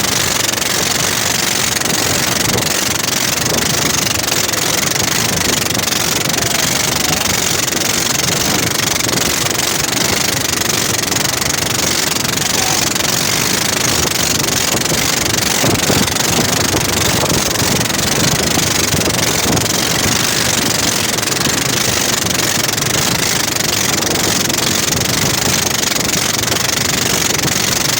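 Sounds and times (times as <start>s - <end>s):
engine idling: 0.0s - 27.9s
radiator fan rushing: 0.0s - 27.9s.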